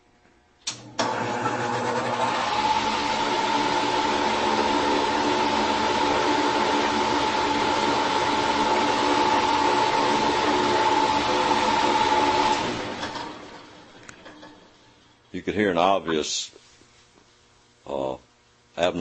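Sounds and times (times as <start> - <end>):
fan motor whine: 0.6 - 18.2.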